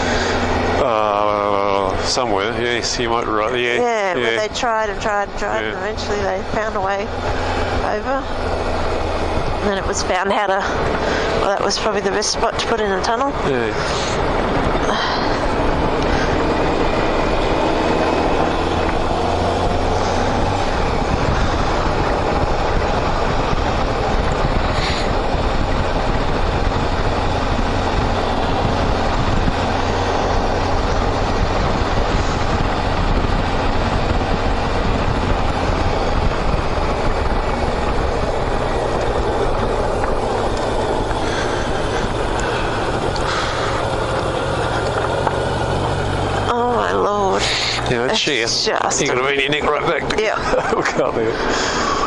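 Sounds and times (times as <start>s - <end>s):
vehicle engine drone: 0.0s - 52.0s
wind and road rush: 0.0s - 52.0s.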